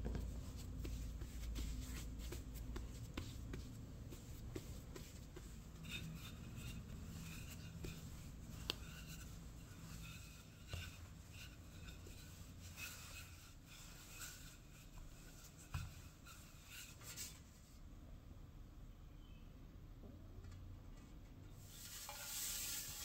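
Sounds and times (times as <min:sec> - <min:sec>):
rolling pin scraping dough: 0:00.0 - 0:17.4, 0:21.7 - 0:23.0.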